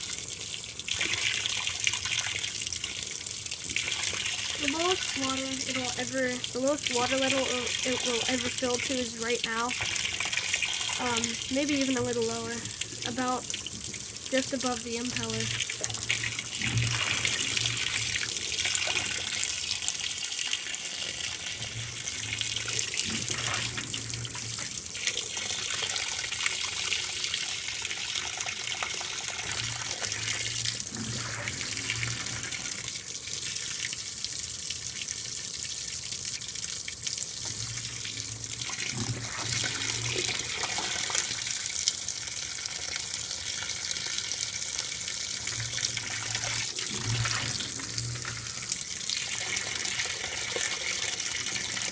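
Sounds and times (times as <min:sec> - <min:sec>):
water pouring into washing machine: 0:00.0 - 0:51.9.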